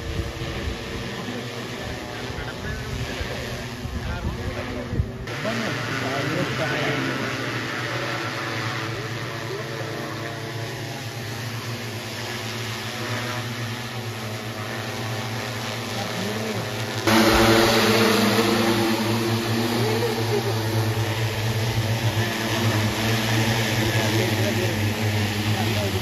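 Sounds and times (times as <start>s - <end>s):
drone rotors humming: 0.0s - 26.0s.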